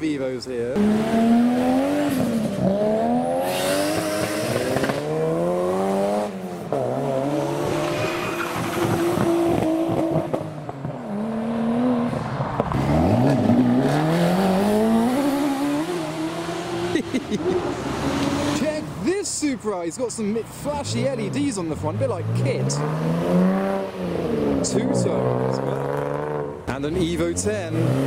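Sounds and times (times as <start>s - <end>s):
cars accelerating hard: 0.7s - 19.0s, 20.7s - 28.0s.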